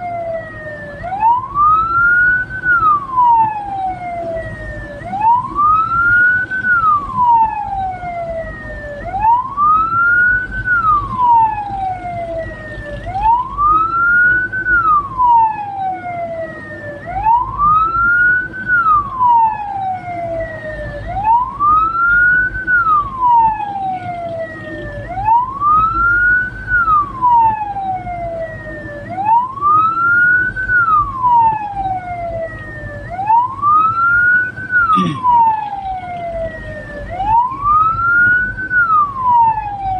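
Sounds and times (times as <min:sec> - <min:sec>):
electronic siren wailing: 0:00.0 - 0:39.9
low vehicle rumble: 0:00.0 - 0:39.9.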